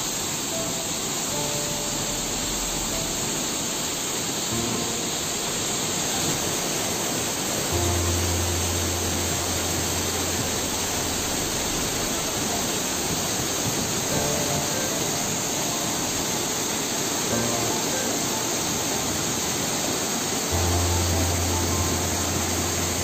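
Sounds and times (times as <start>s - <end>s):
soft background music: 0.0s - 23.0s
waterfall rushing: 0.0s - 23.0s.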